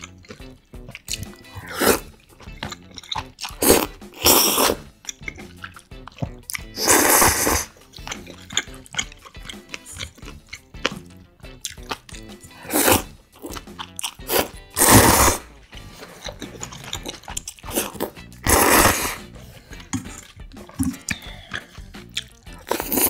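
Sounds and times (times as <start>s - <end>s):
person slurping noodles: 0.0s - 10.6s, 11.7s - 23.0s
wet chewing and crunches: 0.0s - 23.0s.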